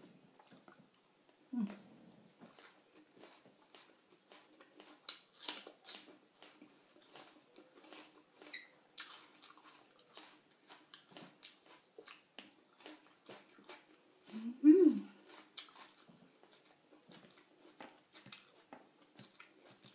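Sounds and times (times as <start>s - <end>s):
person chewing and lip smacking: 0.0s - 19.9s.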